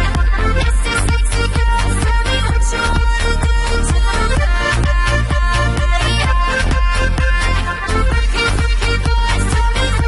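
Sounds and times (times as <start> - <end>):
loud music with heavy bass beat: 0.0 - 10.0.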